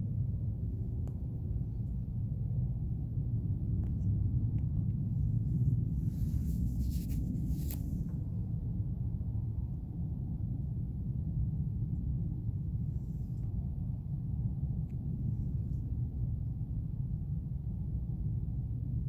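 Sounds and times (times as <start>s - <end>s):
aircraft rumble overhead: 0.0s - 19.0s.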